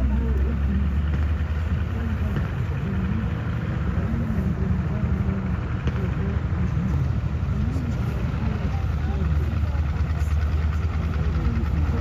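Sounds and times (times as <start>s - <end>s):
tank diesel engine rumbling: 0.0s - 12.0s.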